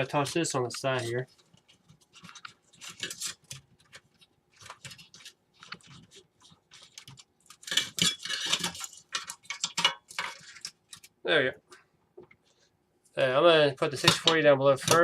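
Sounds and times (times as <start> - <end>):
computer parts clicking and rattling: 0.1 - 11.1, 13.9 - 15.0.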